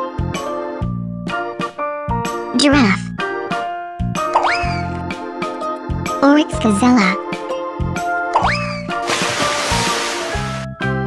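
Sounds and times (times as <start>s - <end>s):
children's background music: 0.0s - 11.0s.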